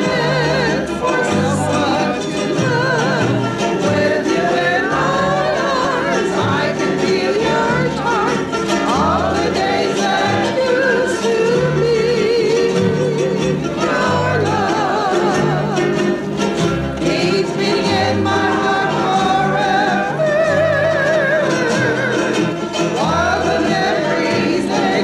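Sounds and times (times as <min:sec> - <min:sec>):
person singing with vibrato: 0:00.0 - 0:25.0.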